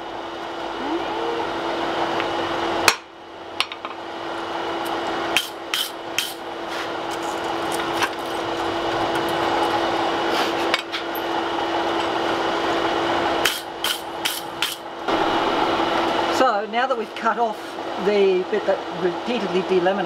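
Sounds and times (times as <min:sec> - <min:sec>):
steady hum: 0:00.0 - 0:19.5.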